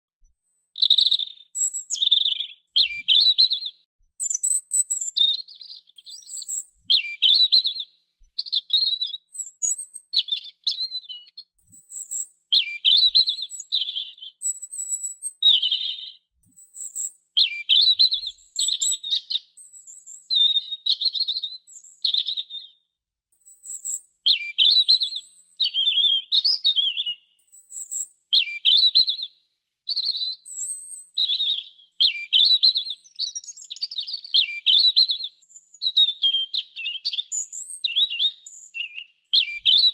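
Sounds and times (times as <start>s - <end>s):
robin singing: 0.6s - 22.8s, 23.5s - 29.3s, 29.9s - 39.9s.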